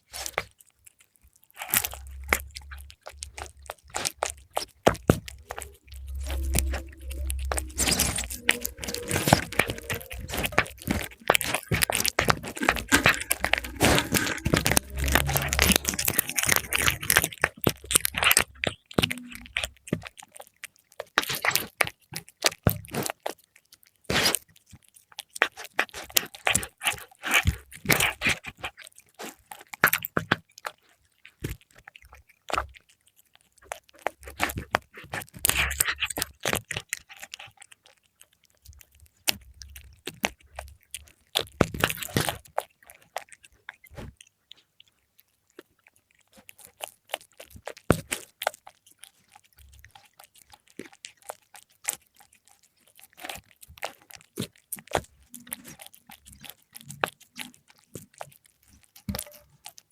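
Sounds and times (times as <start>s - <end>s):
cat chewing and crunching: 0.0s - 59.9s.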